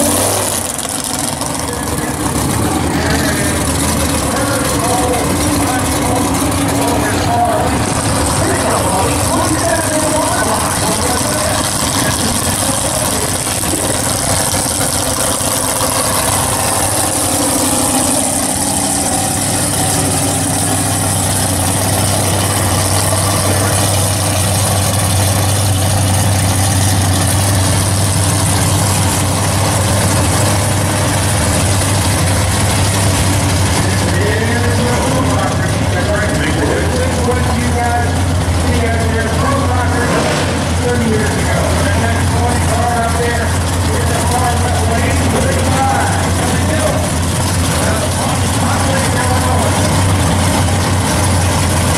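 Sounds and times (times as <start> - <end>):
drag racing car engines idling: 0.0 - 51.9.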